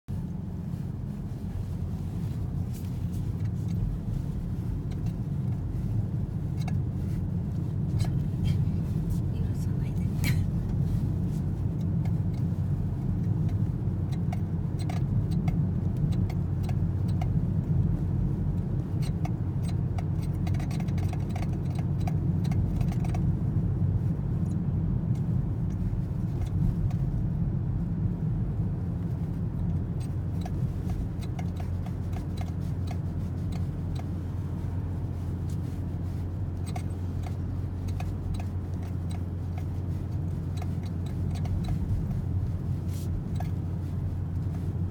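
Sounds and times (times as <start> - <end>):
low car rumble: 0.0 - 44.9.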